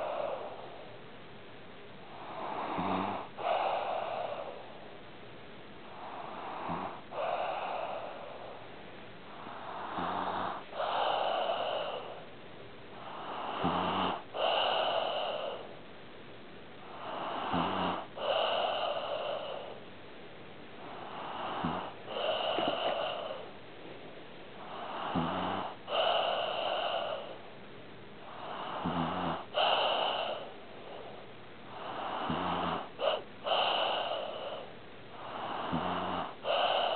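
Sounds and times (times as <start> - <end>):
pet snoring: 0.0 - 1.0, 2.0 - 4.8, 5.8 - 8.7, 9.3 - 12.3, 13.0 - 15.8, 16.8 - 19.8, 20.8 - 23.6, 24.6 - 27.5, 28.2 - 36.9.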